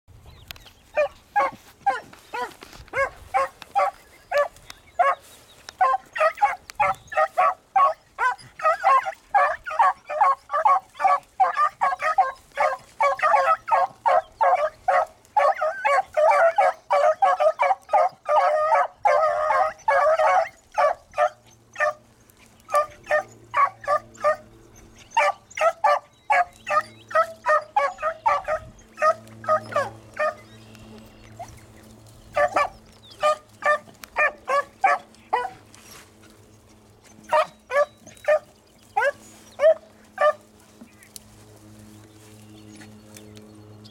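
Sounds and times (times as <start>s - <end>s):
pack of dogs baying: 0.8s - 41.3s.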